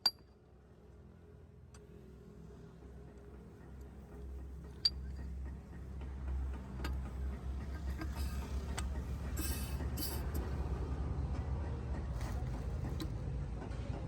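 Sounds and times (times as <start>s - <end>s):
low mechanical rumble: 0.1s - 14.0s.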